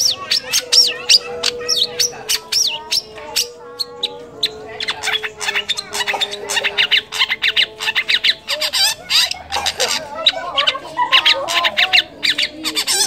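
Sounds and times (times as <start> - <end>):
shrike chattering song: 0.0 - 13.0.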